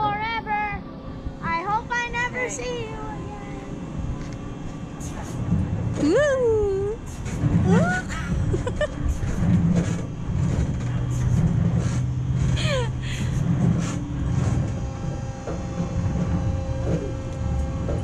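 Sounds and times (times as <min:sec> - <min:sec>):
kiddie ride rumbling: 0:00.0 - 0:18.0.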